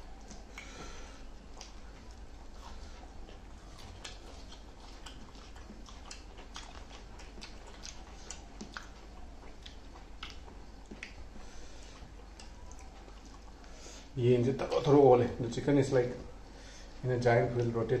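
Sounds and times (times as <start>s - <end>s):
chewing and mouth smacks: 0.0s - 15.0s
low steady hum: 0.0s - 18.0s.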